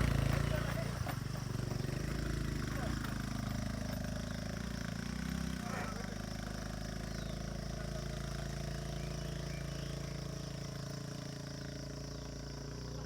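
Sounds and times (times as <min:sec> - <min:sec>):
motorbike engine idling: 0:00.0 - 0:13.0.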